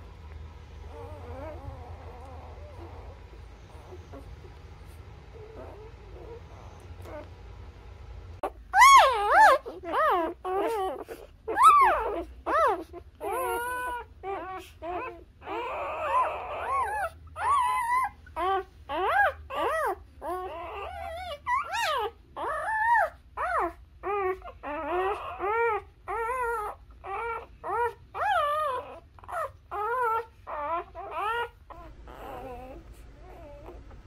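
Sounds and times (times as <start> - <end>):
puppies squeaking and whimpering: 0.8 - 7.2, 8.4 - 34.0.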